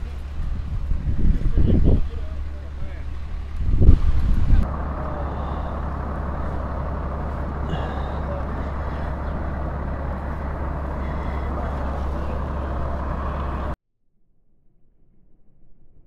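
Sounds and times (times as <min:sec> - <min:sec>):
motor vehicle rumble: 0:00.0 - 0:13.8.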